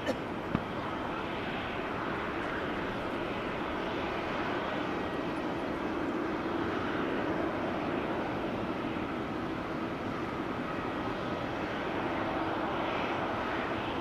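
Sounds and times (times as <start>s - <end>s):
faint engine whine: 0.0s - 14.0s
jet engines running: 0.0s - 14.0s.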